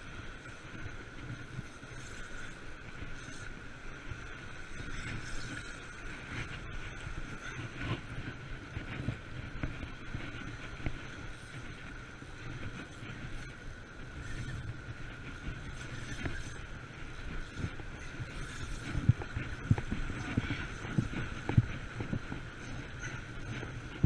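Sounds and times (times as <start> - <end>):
surf washing around rocks: 0.0 - 24.0
thin steady whine: 0.0 - 24.0
wind buffeting microphone: 0.0 - 24.0.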